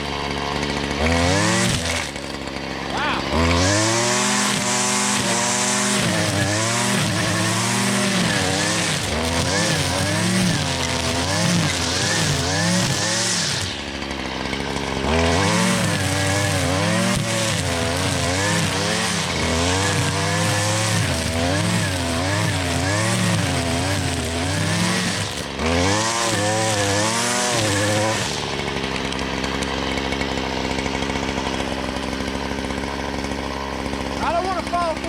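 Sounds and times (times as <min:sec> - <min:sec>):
string trimmer engine revving: 0:00.0 - 0:35.0.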